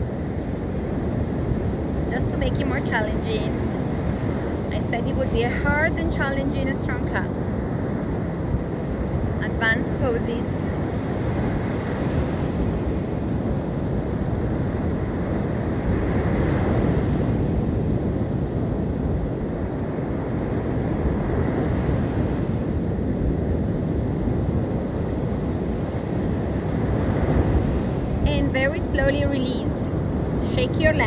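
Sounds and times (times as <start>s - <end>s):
sea surf washing onto beach: 0.0s - 31.0s
wind rumbling on microphone: 0.0s - 31.0s.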